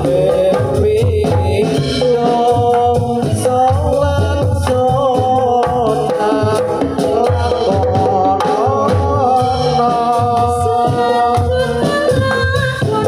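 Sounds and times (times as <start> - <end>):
low drum beats: 0.0 - 13.0.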